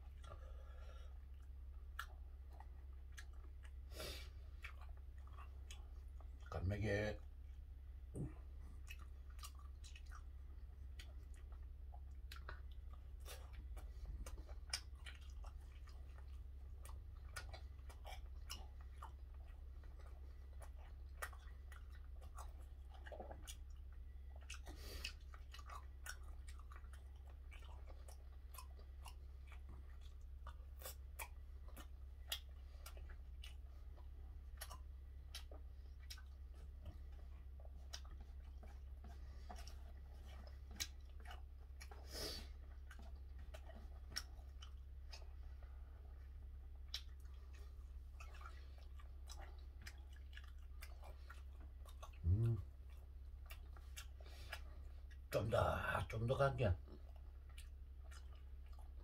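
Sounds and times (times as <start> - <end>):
close-up chewing: 0.0 - 59.0
steady low hum: 0.0 - 59.0.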